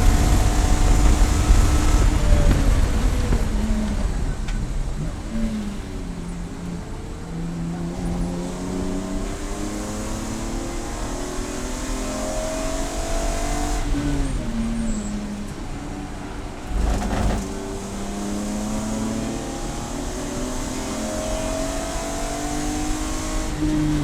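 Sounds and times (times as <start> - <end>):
race car engine accelerating: 0.0 - 24.0.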